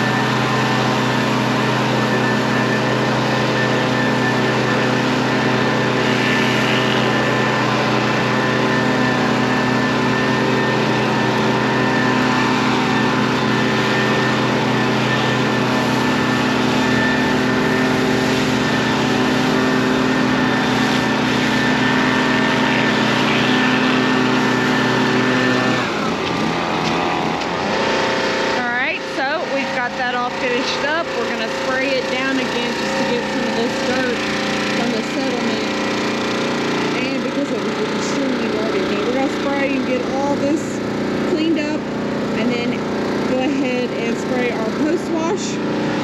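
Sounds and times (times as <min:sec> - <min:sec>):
pressure washer engine running: 0:00.0 - 0:46.0.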